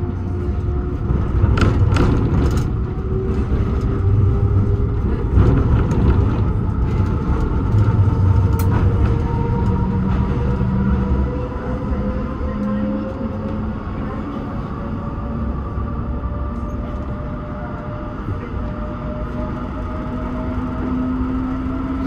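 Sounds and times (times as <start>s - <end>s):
tram rumbling on track: 0.0s - 22.0s.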